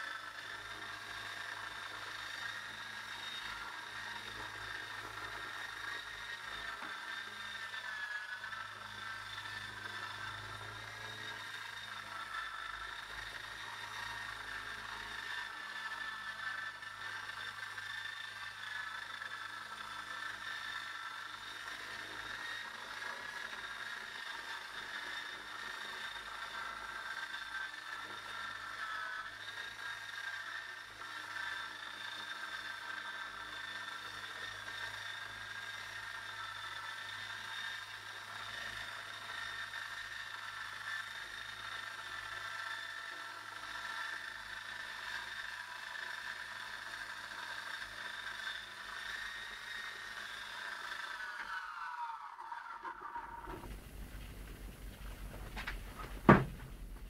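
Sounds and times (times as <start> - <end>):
rc helicopter rotors whining: 0.0 - 57.0.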